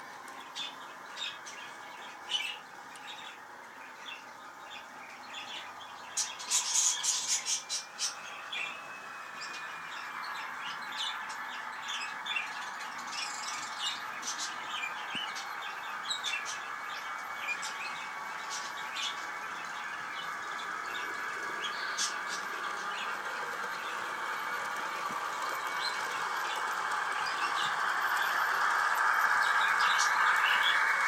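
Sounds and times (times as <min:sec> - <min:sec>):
small birds chirping and squawking: 0:04.0 - 0:08.8, 0:09.4 - 0:31.0.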